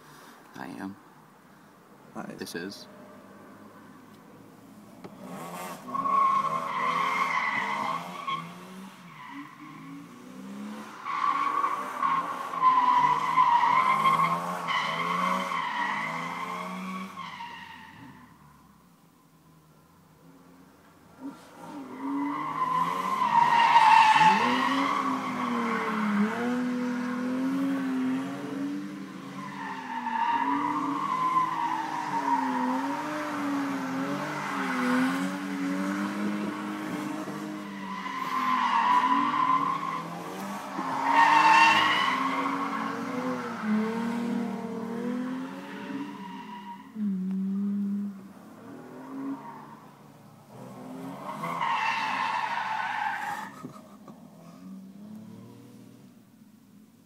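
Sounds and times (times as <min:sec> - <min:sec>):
car engines revving: 0:01.8 - 0:56.5.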